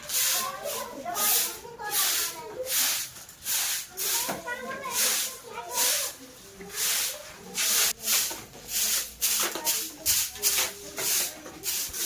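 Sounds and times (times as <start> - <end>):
broom sweeping floor: 0.0 - 12.0.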